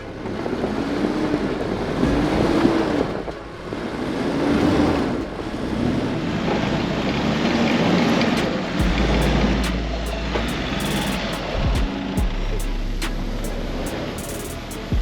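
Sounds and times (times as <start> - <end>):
steady rushing noise: 0.0 - 15.0
vehicle engine revving: 0.0 - 15.0.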